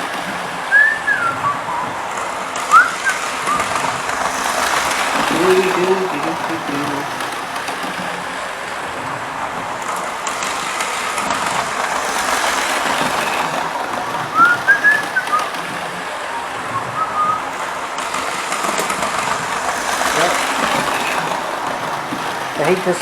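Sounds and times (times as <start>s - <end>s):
model train motor whirring: 0.0s - 23.0s.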